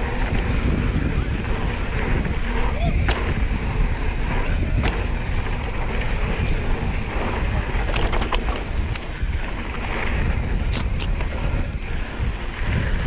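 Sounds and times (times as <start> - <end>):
bike rattles: 0.0 - 13.0
bike tyres rolling on dirt: 0.0 - 13.0
wind buffeting microphone: 0.0 - 13.0.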